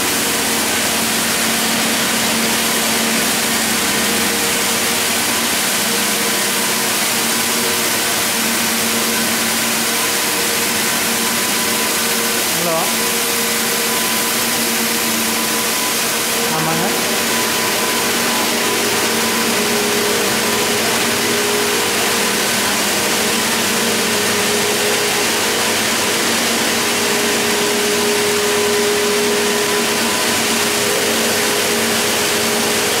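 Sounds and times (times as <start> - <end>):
knitting machines running: 0.0 - 33.0
steady humming tones: 0.0 - 33.0.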